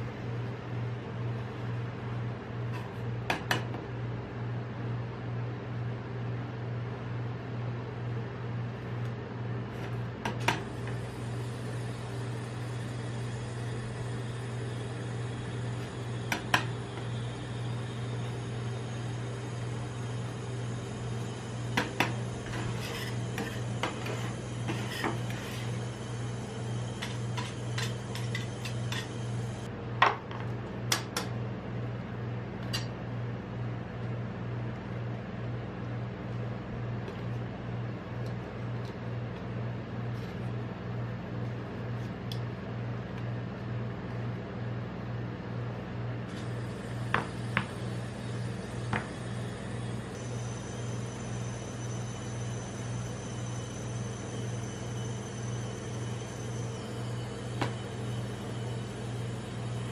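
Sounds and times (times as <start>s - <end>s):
machine low hum: 0.0s - 59.9s.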